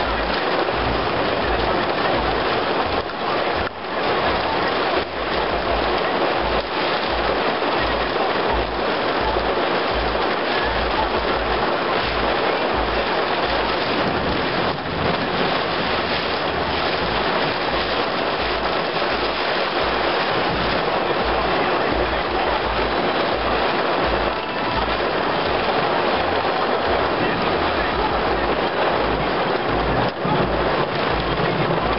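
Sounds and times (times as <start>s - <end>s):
heavy rain on pavement: 0.0s - 31.9s
wind rumbling on microphone: 0.0s - 31.9s.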